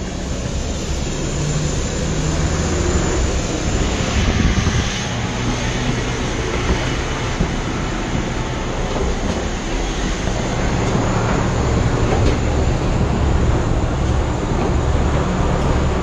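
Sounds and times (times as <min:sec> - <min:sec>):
bus engine running: 0:00.0 - 0:16.0
jet aircraft engines: 0:00.0 - 0:16.0.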